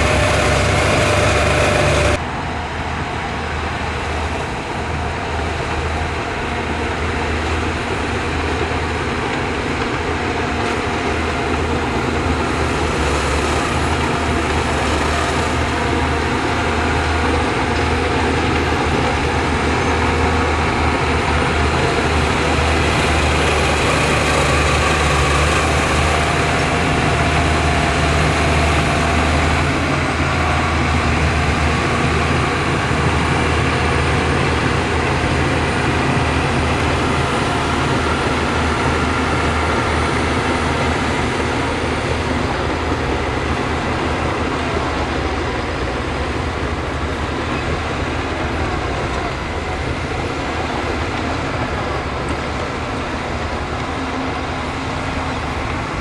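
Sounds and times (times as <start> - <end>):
diesel construction machinery: 0.0 - 56.0.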